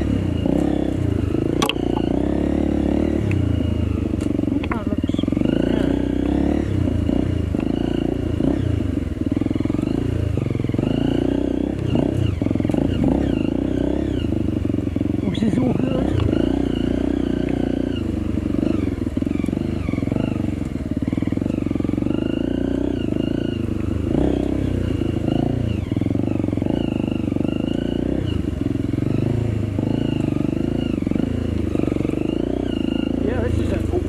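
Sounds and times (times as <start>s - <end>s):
off-road motorcycle engine revving: 0.0s - 34.0s.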